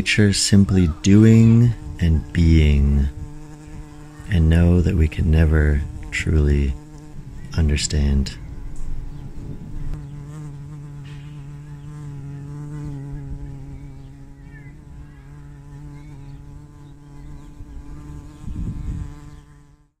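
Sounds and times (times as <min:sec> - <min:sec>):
bumblebee buzzing: 0:00.0 - 0:20.0.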